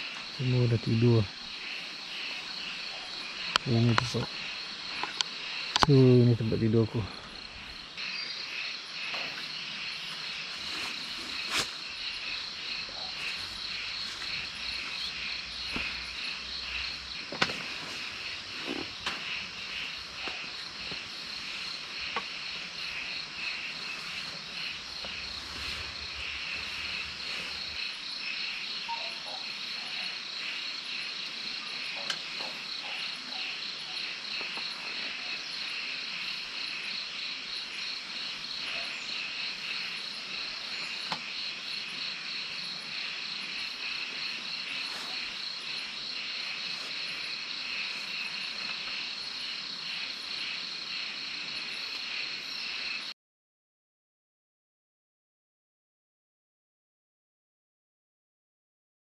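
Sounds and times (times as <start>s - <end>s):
night insects chirping: 0.0s - 53.1s.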